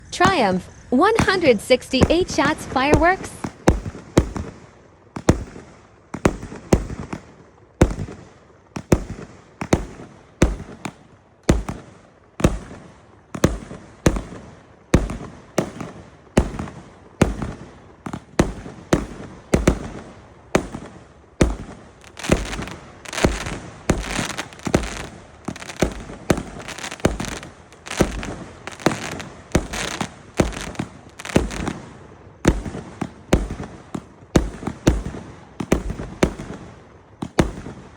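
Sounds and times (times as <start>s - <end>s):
fireworks bangs: 0.0s - 37.9s
fireworks crackling: 0.0s - 37.9s.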